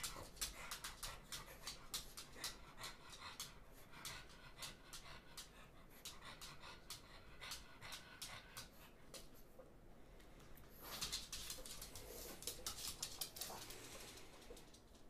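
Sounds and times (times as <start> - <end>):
dog panting faintly: 0.0 - 9.8, 10.6 - 15.0.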